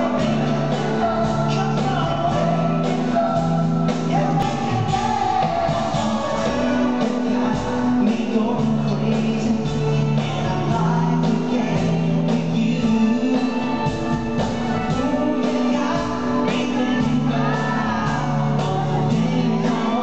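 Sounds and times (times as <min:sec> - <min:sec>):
bass line: 0:00.0 - 0:20.0
live band playing pop: 0:00.0 - 0:20.0
man singing into microphone: 0:00.0 - 0:20.0.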